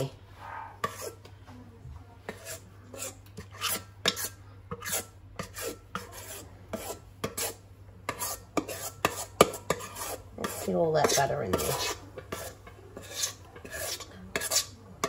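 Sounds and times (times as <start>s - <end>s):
utensil scraping metal bowl: 0.0s - 1.3s, 2.3s - 15.0s.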